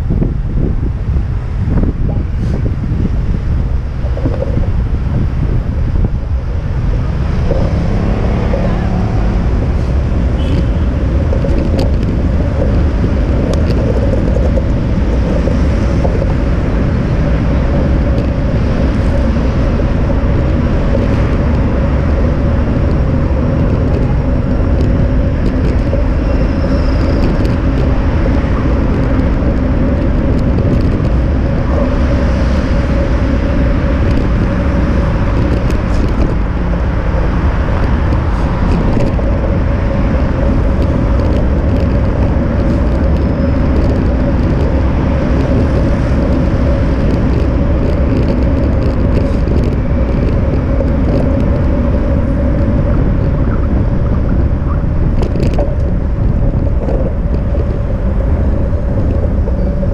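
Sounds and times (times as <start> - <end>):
road rumble: 0.0 - 59.9
traffic noise: 0.0 - 59.9
wind noise: 0.0 - 59.9.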